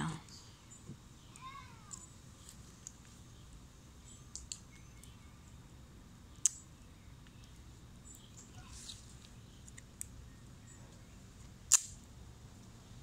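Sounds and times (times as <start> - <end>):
faint outdoor background: 0.0 - 13.0
faint chirp: 0.2 - 11.3.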